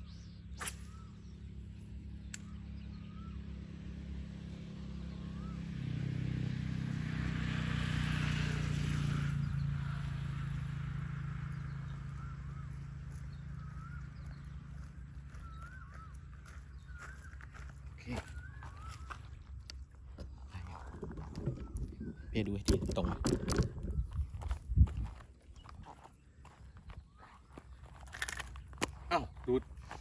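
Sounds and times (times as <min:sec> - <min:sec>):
birds chirping: 0:00.0 - 0:06.0, 0:08.2 - 0:30.0
motor engine passing by: 0:00.0 - 0:30.0.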